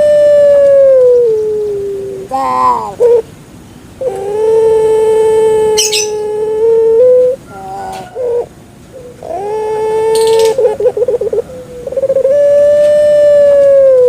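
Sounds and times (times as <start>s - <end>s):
dove cooing: 0.0s - 3.3s, 4.0s - 14.0s.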